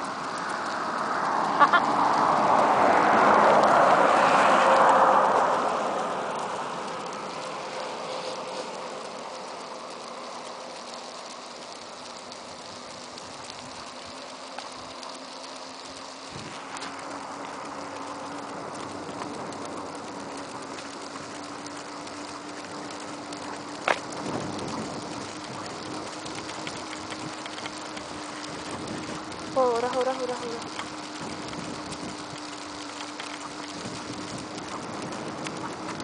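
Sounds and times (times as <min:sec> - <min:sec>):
wheels rolling over asphalt: 0:00.0 - 0:36.0.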